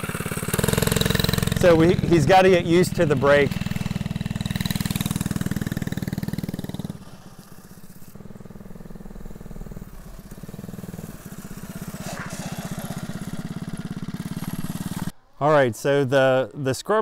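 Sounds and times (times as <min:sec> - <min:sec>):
small motorbike engine running: 0:00.0 - 0:15.2.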